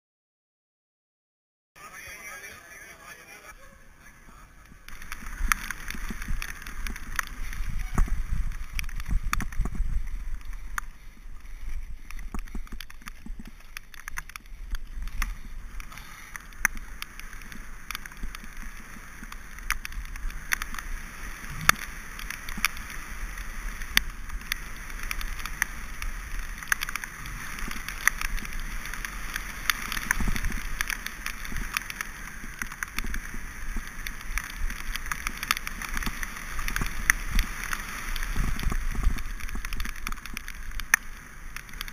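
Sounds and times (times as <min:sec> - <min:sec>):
tyre and wind noise: 0:03.6 - 0:41.9
bike rattling over ground: 0:04.6 - 0:41.9.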